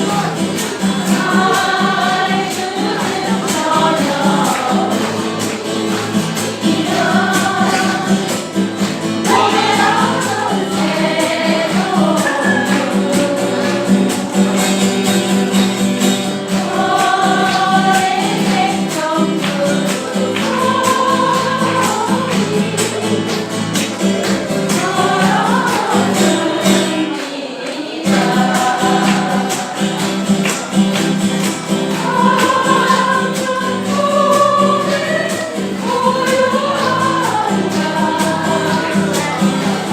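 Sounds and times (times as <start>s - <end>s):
small ensemble playing live music: 0.0s - 39.9s.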